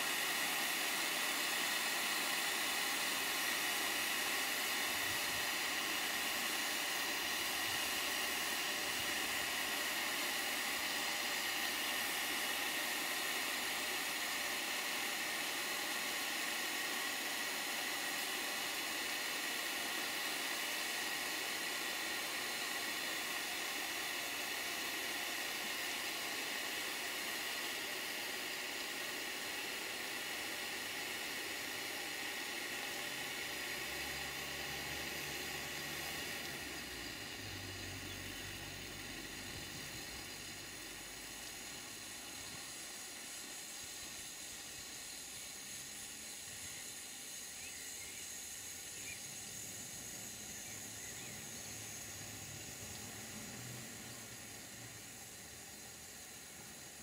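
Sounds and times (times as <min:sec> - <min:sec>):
hiss of escaping steam: 0:00.0 - 0:57.0.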